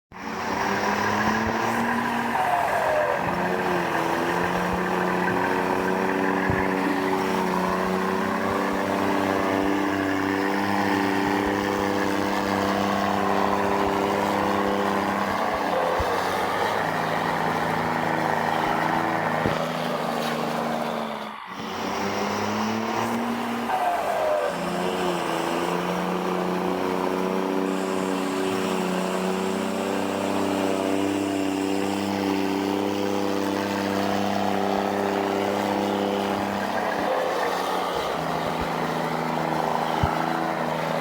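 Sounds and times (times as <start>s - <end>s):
engine droning rumble: 0.1s - 41.0s.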